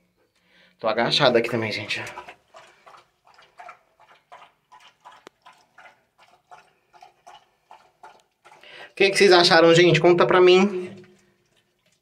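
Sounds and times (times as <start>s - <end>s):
dog lapping water: 1.5s - 9.8s, 10.7s - 12.0s.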